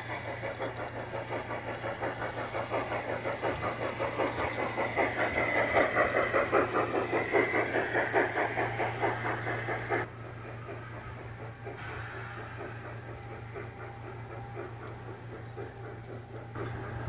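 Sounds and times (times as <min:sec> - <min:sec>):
model steam locomotive chuffing: 0:00.0 - 0:17.0
steady hum: 0:00.0 - 0:17.0.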